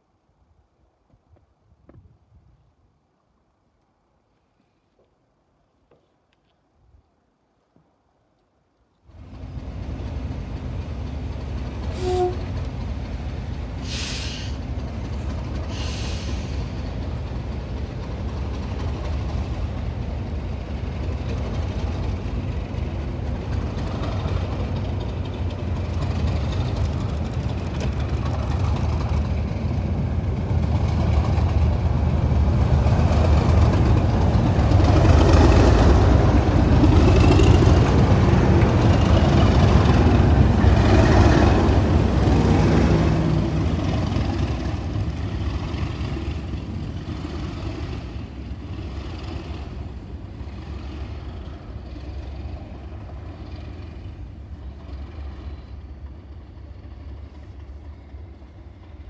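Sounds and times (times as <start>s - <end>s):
diesel locomotive engines passing: 9.0s - 59.0s.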